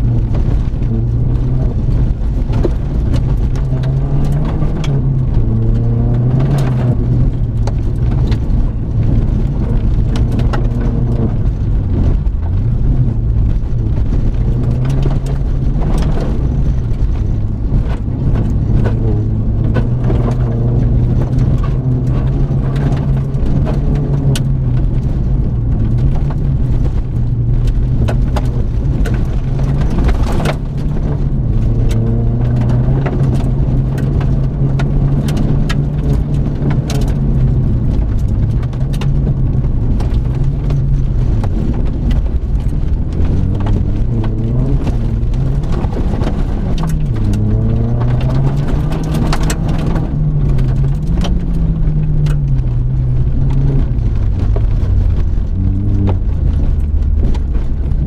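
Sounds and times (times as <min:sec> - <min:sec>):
car engine at full throttle: 0:00.0 - 0:58.0
gravel striking car: 0:00.0 - 0:58.0.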